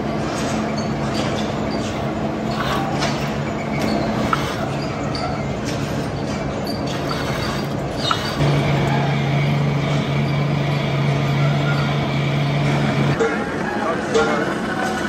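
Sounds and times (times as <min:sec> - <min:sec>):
machinery humming: 0:00.0 - 0:15.0
workshop noise: 0:00.0 - 0:15.0.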